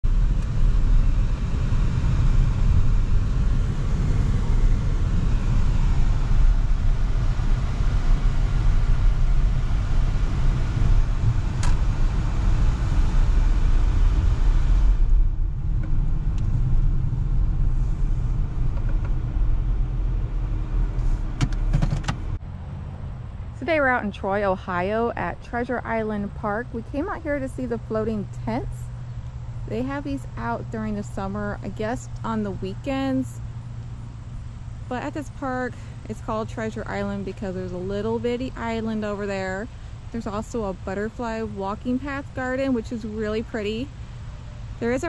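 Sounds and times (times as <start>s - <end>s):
car cabin road rumble: 0.0s - 45.0s.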